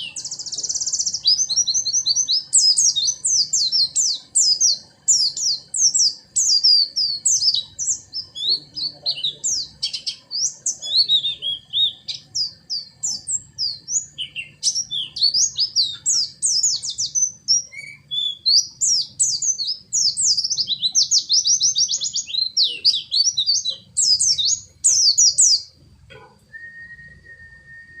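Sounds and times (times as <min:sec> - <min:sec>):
bird chirps and trills: 0:00.0 - 0:26.3.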